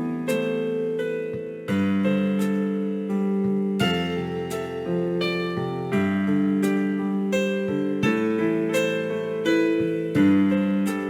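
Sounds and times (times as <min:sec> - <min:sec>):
slow electric piano music: 0:00.0 - 0:11.0.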